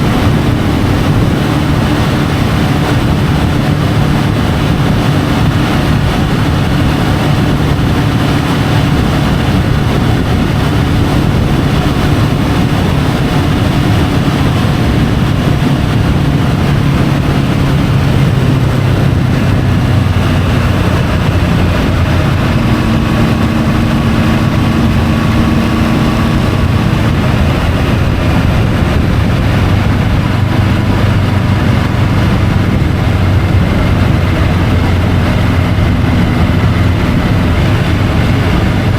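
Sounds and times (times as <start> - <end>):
motorcycle engine running: 0.0 - 38.9
road noise: 0.0 - 38.9
wind rush: 0.0 - 38.9.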